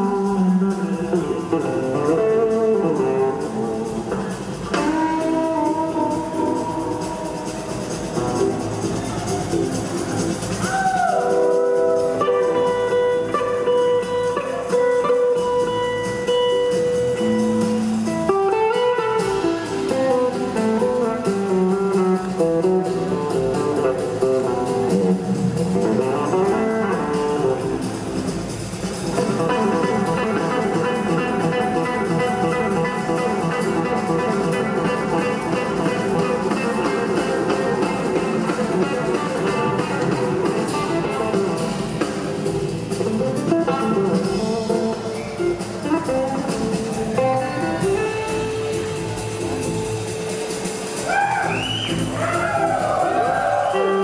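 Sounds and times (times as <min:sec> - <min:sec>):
drums: 0:00.0 - 0:54.0
electric guitar lead: 0:00.0 - 0:54.0.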